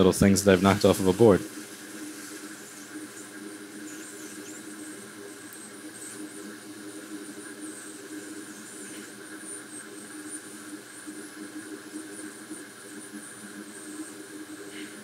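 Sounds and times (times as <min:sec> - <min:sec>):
faint wavering high whine: 0:00.0 - 0:15.0
hot air blower whirring: 0:00.0 - 0:15.0.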